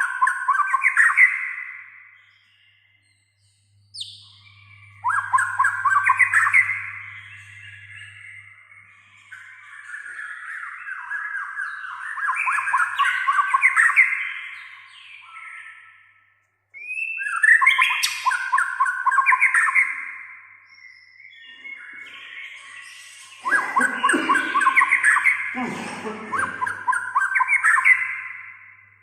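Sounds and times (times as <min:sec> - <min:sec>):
bird singing whistles and trills: 0:00.0 - 0:29.0.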